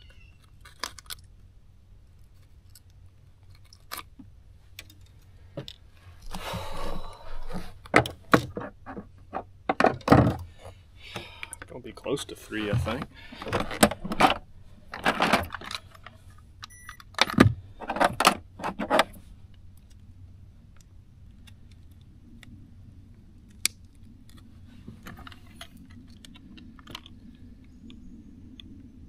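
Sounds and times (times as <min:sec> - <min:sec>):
handling clicks and rustling: 0:00.0 - 0:28.9.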